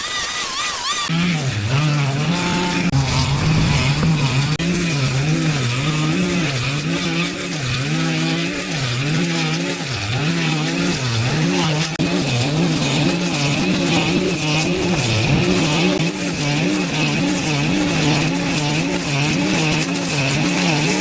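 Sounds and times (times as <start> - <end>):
brush cutter engine running: 0.7 - 21.0.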